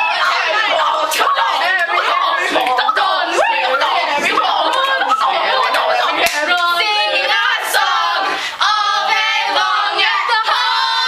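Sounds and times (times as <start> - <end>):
group singing a cappella: 0.0 - 11.0.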